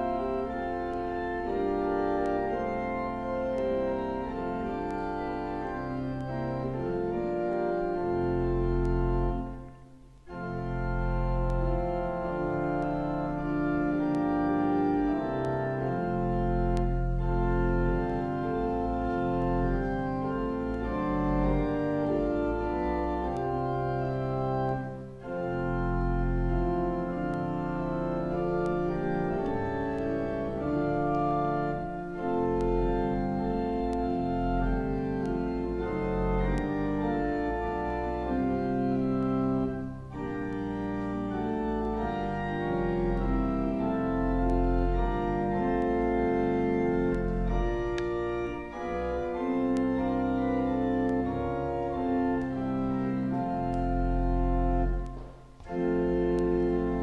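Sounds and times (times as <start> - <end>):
church organ chords: 0.0 - 57.0.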